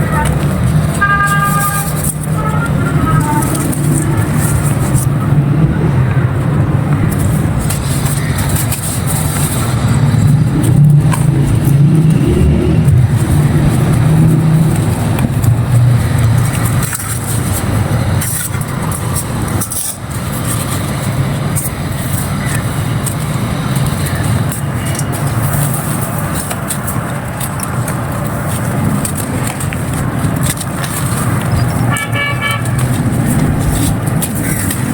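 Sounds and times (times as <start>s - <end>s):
dry clay crackling: 0.0s - 34.9s
vehicle engine running: 0.0s - 34.9s.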